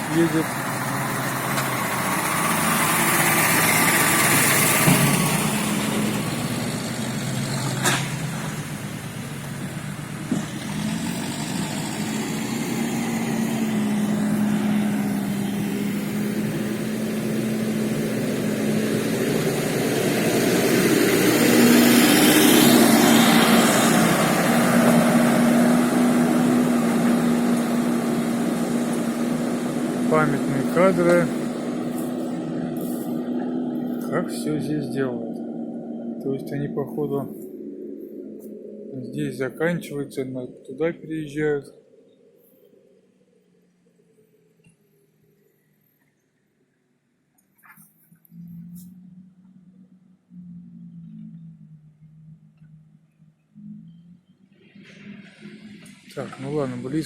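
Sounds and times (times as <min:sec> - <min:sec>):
diesel truck driving past: 0:00.0 - 0:46.1, 0:48.0 - 0:57.0.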